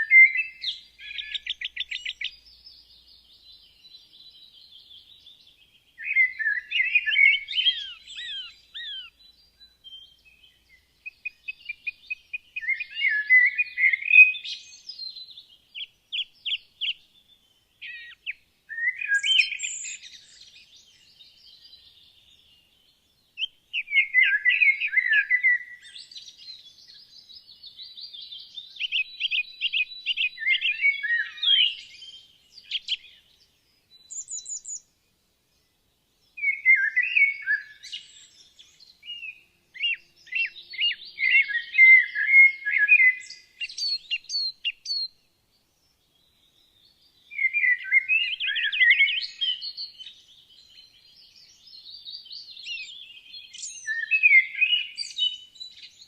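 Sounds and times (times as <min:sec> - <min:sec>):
songbirds warbling: 0:00.0 - 0:56.0.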